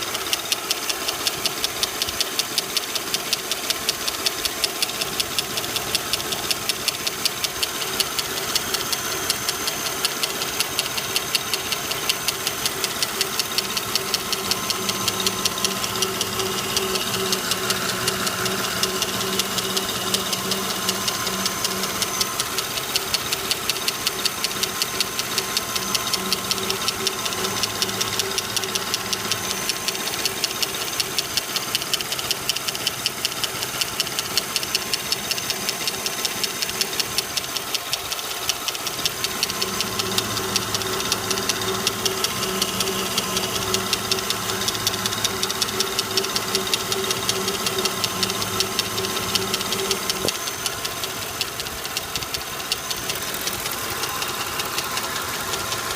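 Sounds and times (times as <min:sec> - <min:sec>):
car engine idling with ticking rattle: 0:00.0 - 0:55.9.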